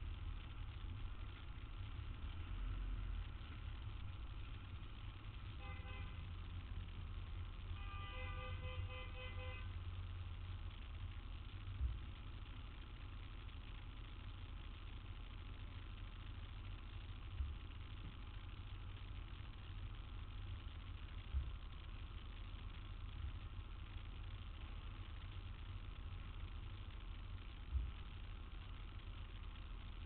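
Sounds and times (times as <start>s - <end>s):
city street traffic rumble: 0.0s - 30.0s
engines idling: 0.0s - 30.0s.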